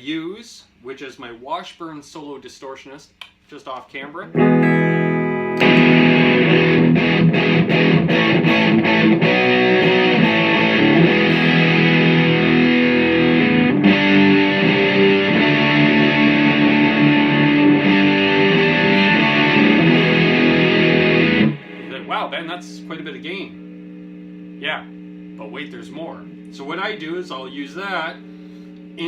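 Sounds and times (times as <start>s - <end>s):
distorted electric guitar: 4.3s - 29.0s.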